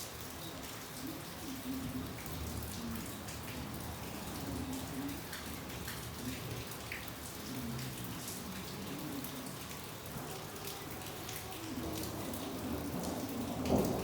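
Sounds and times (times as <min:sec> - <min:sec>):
rain falling: 0:00.0 - 0:14.0
raindrops ticking: 0:02.0 - 0:14.0.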